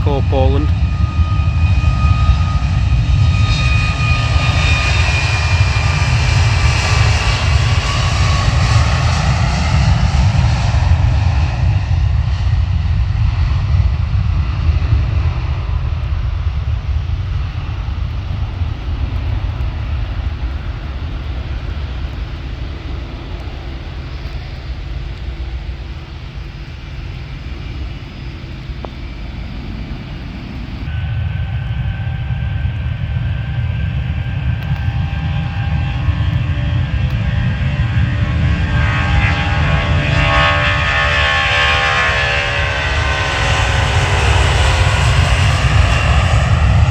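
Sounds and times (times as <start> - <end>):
another jet engine whining: 0.0 - 46.9
jet engines whining: 0.0 - 46.9.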